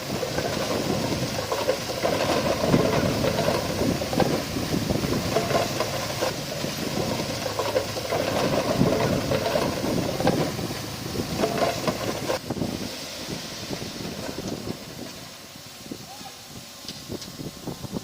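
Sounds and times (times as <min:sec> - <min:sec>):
heavy diesel machinery running: 0:00.0 - 0:15.8.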